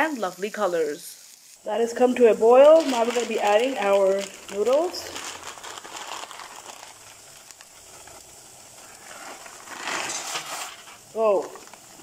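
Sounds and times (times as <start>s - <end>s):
plastic packet rustling: 0.0s - 12.0s
vegetables sizzling in a pan: 0.0s - 12.0s
water boiling in a saucepan: 0.0s - 12.0s.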